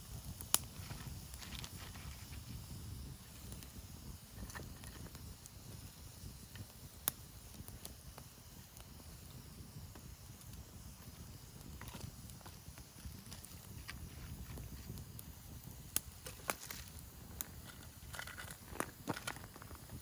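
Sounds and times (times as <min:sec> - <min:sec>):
campfire crackling: 0:00.0 - 0:20.0
fire popping: 0:00.0 - 0:20.0.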